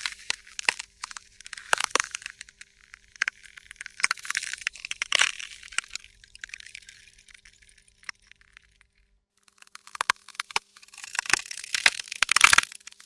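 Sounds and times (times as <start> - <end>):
ice cracking: 0.0 - 13.0.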